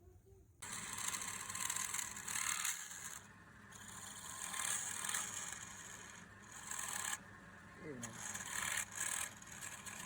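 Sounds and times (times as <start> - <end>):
lathe humming: 0.6 - 10.0
tool scraping wood on lathe: 0.6 - 10.0.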